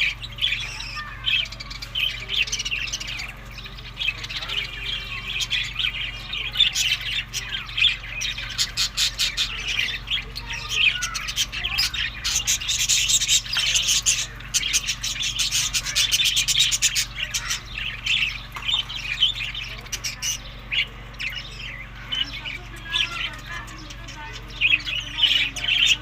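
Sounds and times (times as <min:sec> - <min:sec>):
budgerigars chattering and squawking: 0:00.0 - 0:26.0.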